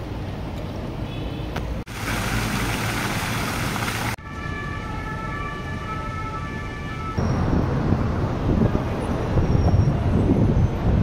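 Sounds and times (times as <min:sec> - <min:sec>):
traffic rushing: 0:00.0 - 0:11.0
wind: 0:00.0 - 0:11.0.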